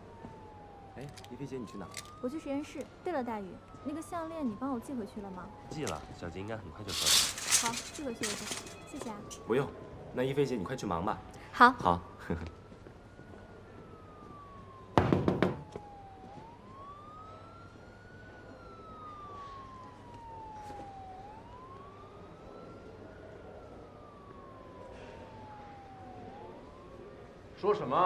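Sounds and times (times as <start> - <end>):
siren wailing: 0.0 - 28.0.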